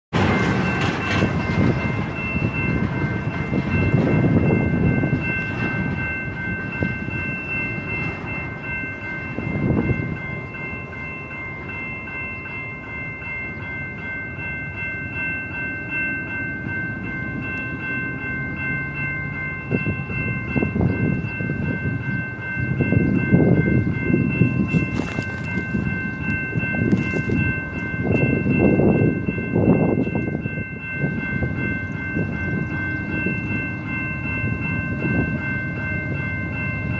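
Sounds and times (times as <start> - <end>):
crossing bell ringing: 0.1 - 36.9.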